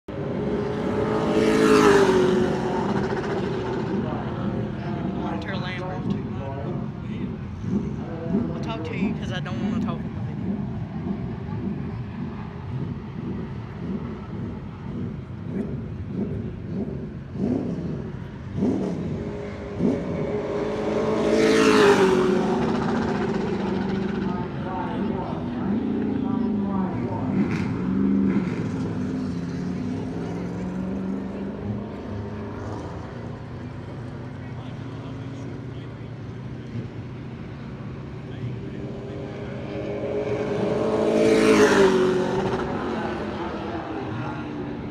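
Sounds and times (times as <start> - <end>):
race truck engine passing: 0.1 - 44.9.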